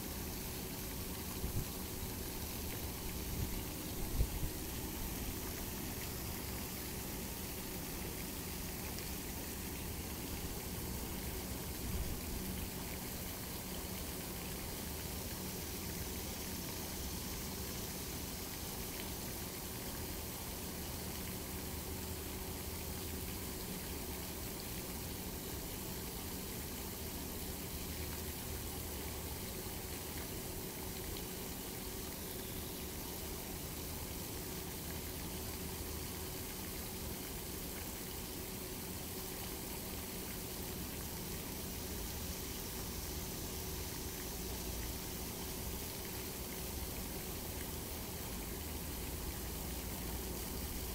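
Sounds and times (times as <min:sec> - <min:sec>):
faint steady hum: 0:00.0 - 0:50.9
fountain water splashing: 0:00.0 - 0:50.9.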